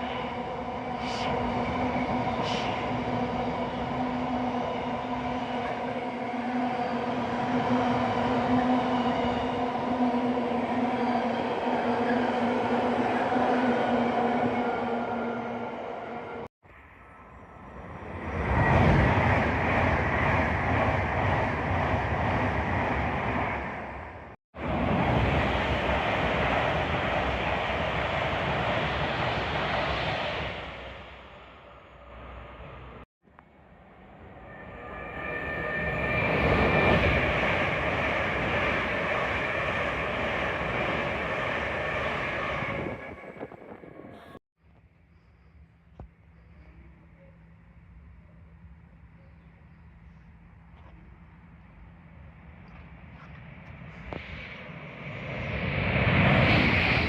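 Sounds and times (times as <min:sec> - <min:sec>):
train rumbling past on rails: 0:00.0 - 0:44.4, 0:51.4 - 0:57.0.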